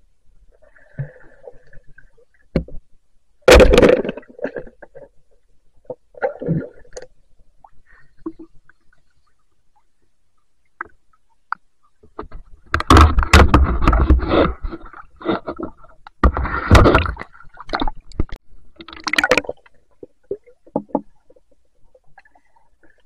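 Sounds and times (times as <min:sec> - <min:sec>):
water splashing and sloshing: 0:00.4 - 0:23.0.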